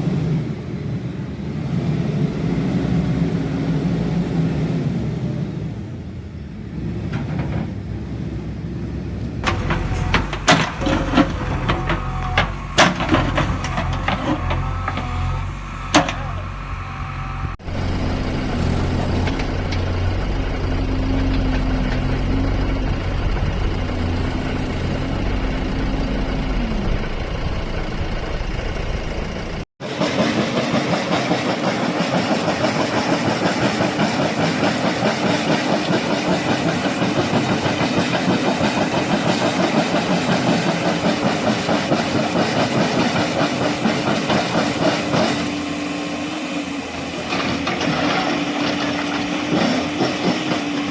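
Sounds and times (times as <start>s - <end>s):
diesel construction machines running: 0.0s - 16.1s, 17.3s - 50.9s.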